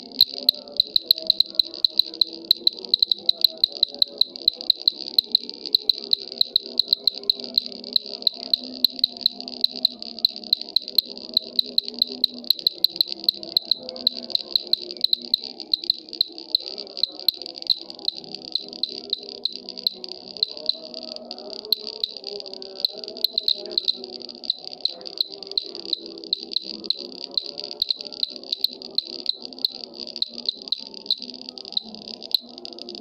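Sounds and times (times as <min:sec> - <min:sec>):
cricket chirping: 0:00.0 - 0:33.0.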